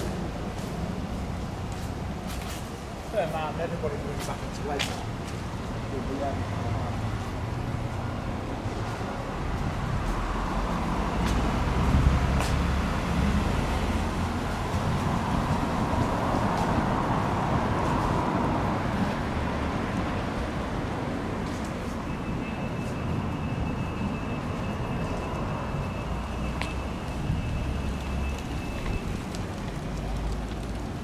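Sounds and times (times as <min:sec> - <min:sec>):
road traffic noise: 0:00.0 - 0:31.0.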